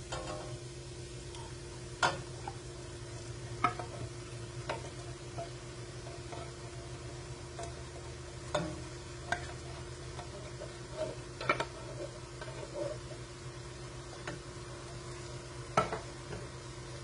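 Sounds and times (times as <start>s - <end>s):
food sizzling in a pot: 0.0s - 17.0s
steady low hum: 0.0s - 17.0s.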